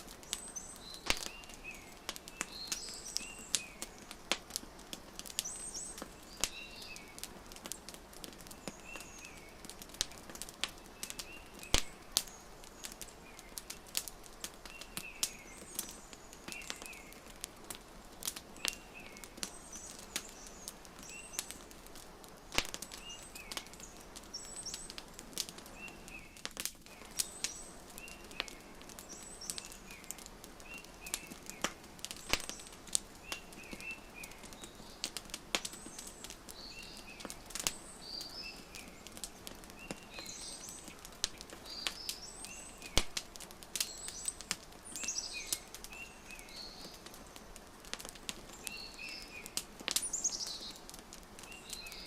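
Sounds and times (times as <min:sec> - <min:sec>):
small birds chirping: 0:00.0 - 0:52.0
wood fire crackling: 0:00.0 - 0:52.0.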